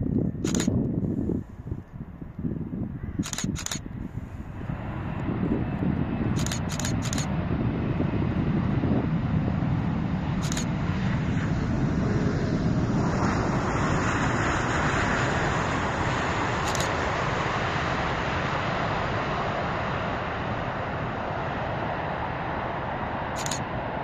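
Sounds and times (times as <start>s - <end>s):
distant jet engines roaring: 0.0s - 24.0s.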